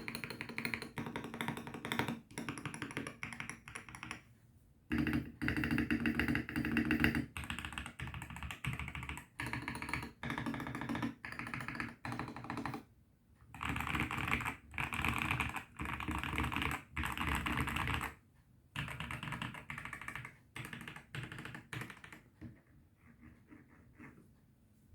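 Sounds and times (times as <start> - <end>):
mechanical keyboard typing: 0.0 - 4.2, 4.9 - 12.8, 13.5 - 18.2, 18.8 - 22.4.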